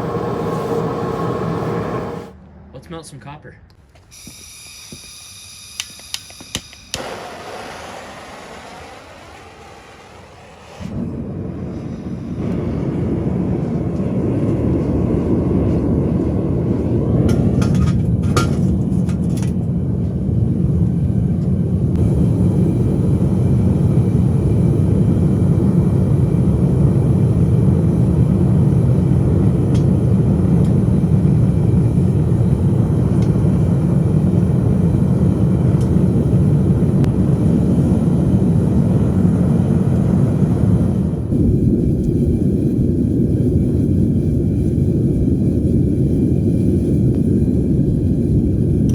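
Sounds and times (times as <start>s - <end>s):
gas burners roaring: 0.0s - 3.0s, 4.0s - 48.9s.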